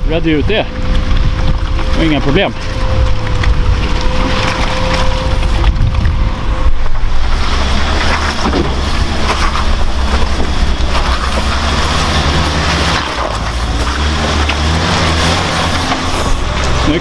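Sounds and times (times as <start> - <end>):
vehicle engine running hard: 0.0 - 17.0
vehicle rushing through wet terrain: 0.0 - 17.0.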